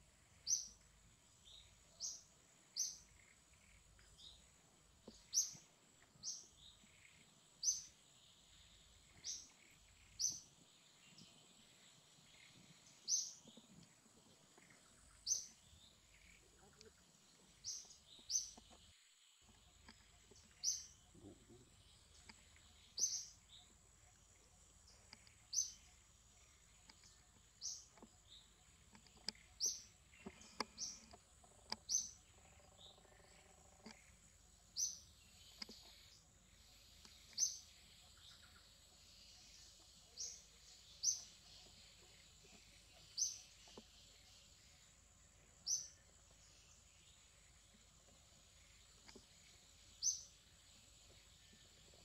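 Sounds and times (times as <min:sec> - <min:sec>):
bird chirping: 0:00.0 - 0:52.0.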